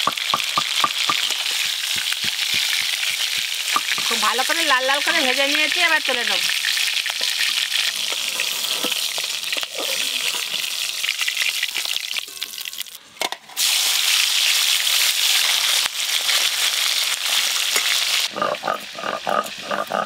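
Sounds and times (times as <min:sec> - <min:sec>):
fish sizzling in hot oil: 0:00.0 - 0:18.3.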